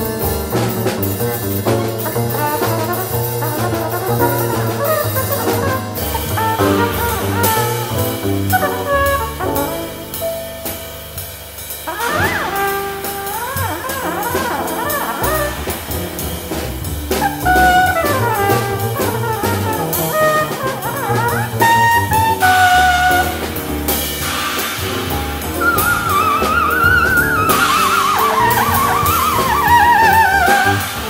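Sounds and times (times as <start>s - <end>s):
trumpet melody: 0.0s - 10.7s, 11.9s - 31.0s
plucked upright bass: 0.0s - 11.2s, 11.8s - 31.0s
drum kit with cymbals: 0.0s - 31.0s
piano: 0.0s - 31.0s.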